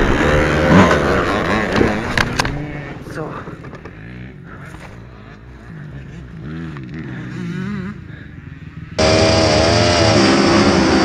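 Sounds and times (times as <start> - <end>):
dirt bike engine revving: 0.0 - 3.1, 3.8 - 11.0
motocross bikes revving: 0.0 - 11.0.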